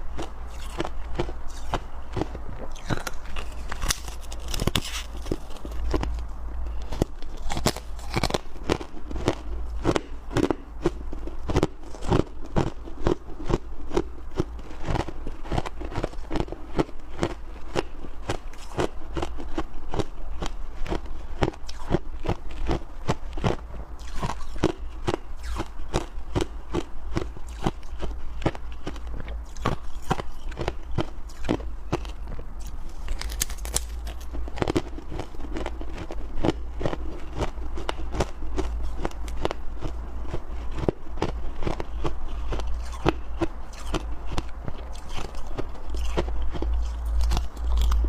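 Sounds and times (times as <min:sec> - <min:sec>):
crunching and chewing ice: 0:00.0 - 0:48.0
steady low hum: 0:00.0 - 0:48.0.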